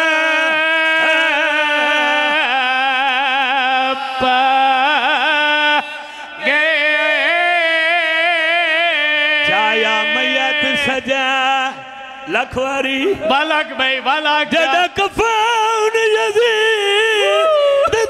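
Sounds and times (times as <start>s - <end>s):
man chanting a lament: 0.0s - 18.0s.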